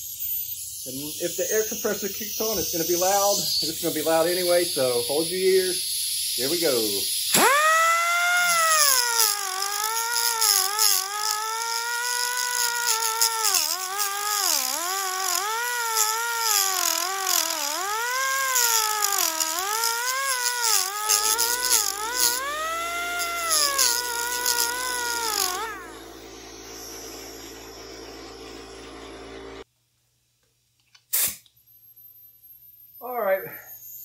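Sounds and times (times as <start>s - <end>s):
pneumatic die grinder whining: 0.0s - 29.6s.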